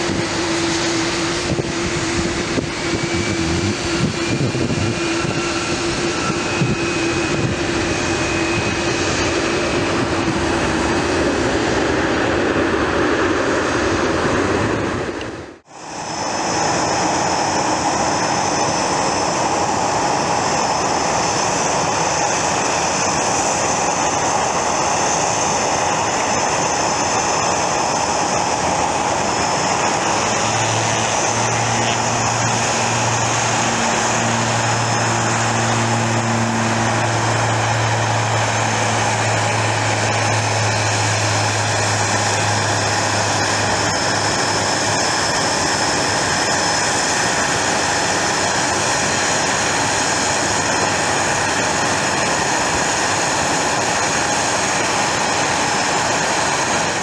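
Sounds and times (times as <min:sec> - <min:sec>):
high turbine whine: 0:00.0 - 0:57.0
jet engines running with whine: 0:00.0 - 0:57.0.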